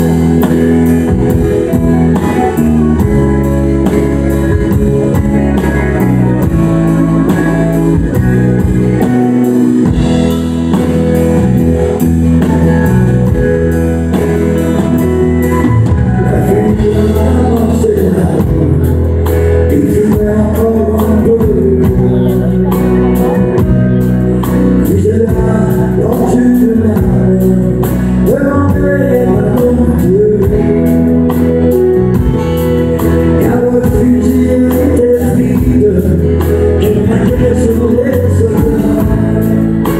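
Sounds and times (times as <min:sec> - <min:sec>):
man singing: 0:00.0 - 0:12.0, 0:13.3 - 0:39.9
acoustic guitar: 0:00.0 - 0:39.9
country band playing: 0:00.0 - 0:39.9.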